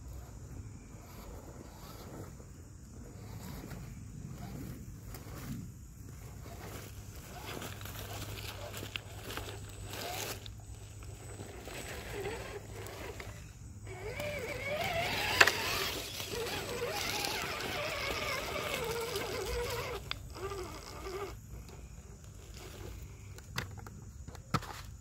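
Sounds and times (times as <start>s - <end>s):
rc truck electric motor whining: 0.0s - 23.8s.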